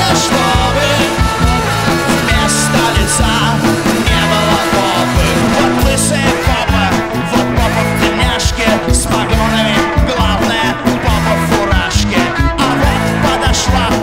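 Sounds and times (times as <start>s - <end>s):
bass guitar: 0.0s - 14.0s
drums: 0.0s - 14.0s
electric guitars: 0.0s - 14.0s
person singing: 0.0s - 14.0s.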